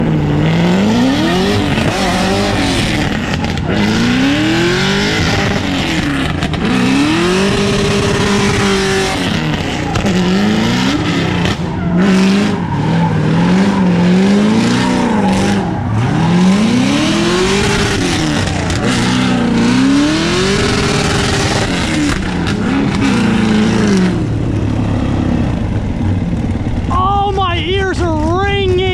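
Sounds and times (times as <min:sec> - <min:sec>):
vehicle engine revving: 0:00.0 - 0:28.9.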